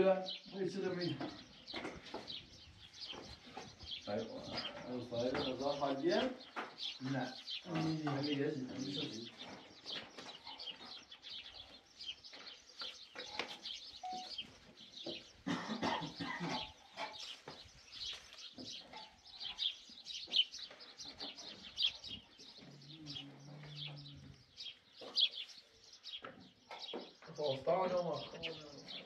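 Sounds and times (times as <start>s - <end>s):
birds chirping: 0.0s - 29.0s
low steady bird call: 0.0s - 29.0s.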